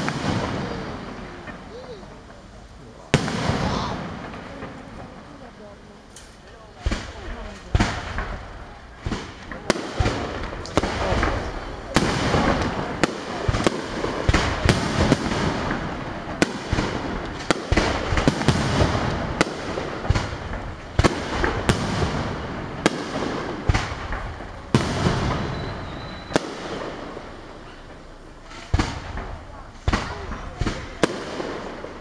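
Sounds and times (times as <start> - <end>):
firework shells bursting: 6.1 - 32.0.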